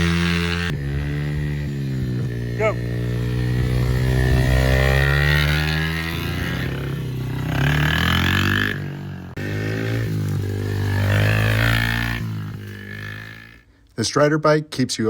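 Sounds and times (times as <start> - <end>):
dirt bike engine running: 0.0 - 13.6.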